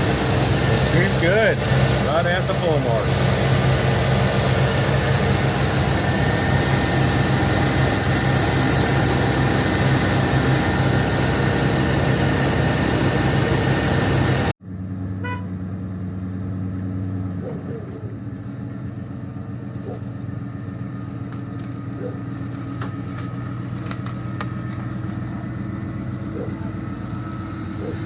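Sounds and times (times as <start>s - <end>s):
pickup engine idling: 0.0s - 28.0s.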